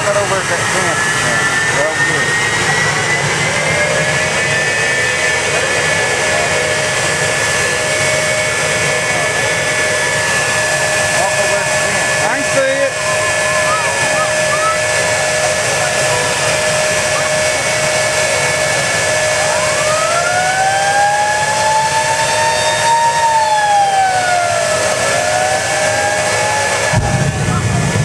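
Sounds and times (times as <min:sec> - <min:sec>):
jet engine rushing and whining: 0:00.0 - 0:28.0
rising whine: 0:00.0 - 0:28.0.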